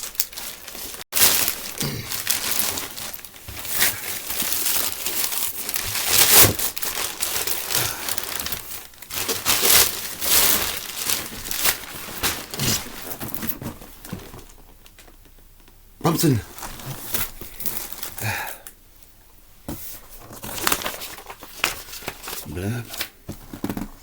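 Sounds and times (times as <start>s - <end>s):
packaging crumpling and tearing: 0.0s - 15.2s, 16.5s - 18.7s, 20.4s - 24.0s.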